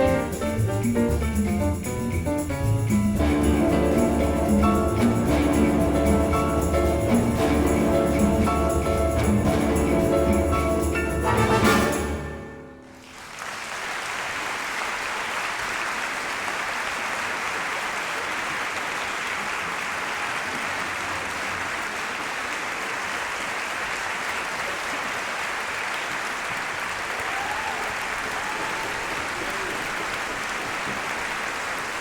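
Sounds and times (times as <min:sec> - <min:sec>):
audience applauding: 0:02.9 - 0:32.0.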